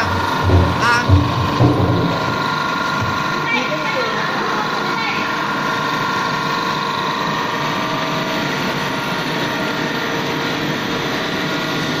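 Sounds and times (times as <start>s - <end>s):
machine noise with whine: 0.0s - 12.0s.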